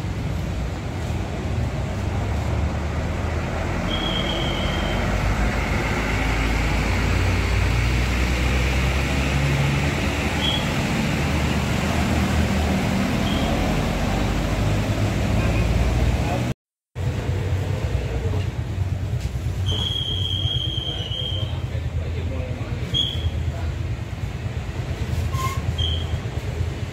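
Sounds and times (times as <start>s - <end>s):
diesel bus engine rumble: 0.0s - 26.9s.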